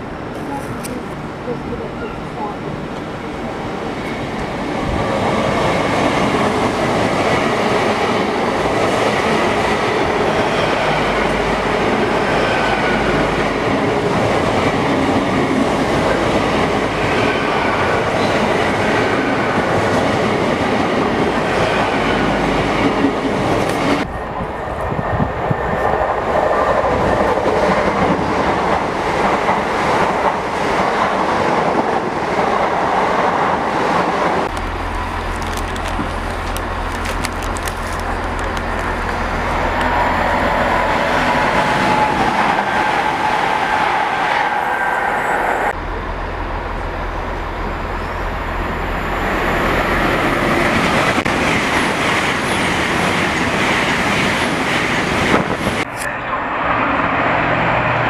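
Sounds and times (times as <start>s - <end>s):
train passing at speed: 0.0s - 58.0s.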